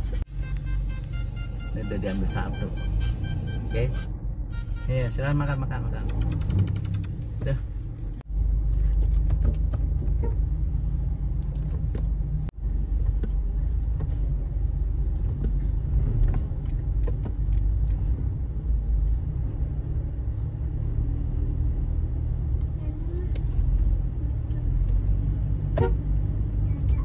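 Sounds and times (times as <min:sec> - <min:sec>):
car rumble from inside cabin: 0:00.0 - 0:27.0.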